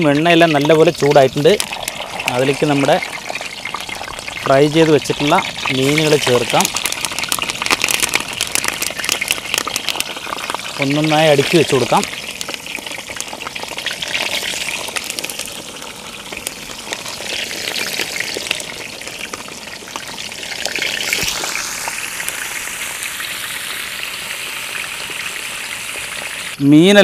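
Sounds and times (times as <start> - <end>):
fish sizzling in oil: 0.0 - 27.0.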